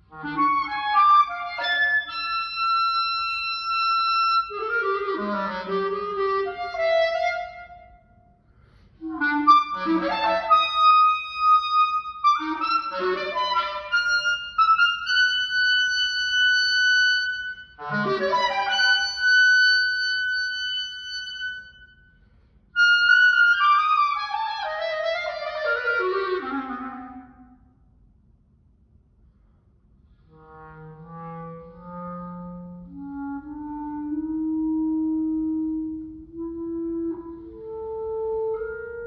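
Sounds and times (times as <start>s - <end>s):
solo clarinet: 0.0s - 21.9s, 22.8s - 27.6s, 30.2s - 39.0s.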